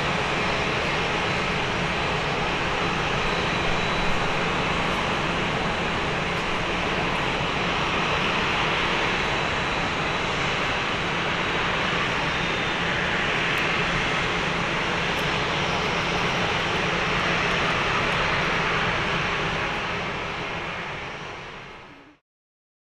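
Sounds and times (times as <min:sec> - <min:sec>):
jet engine roar at takeoff: 0:00.0 - 0:22.2.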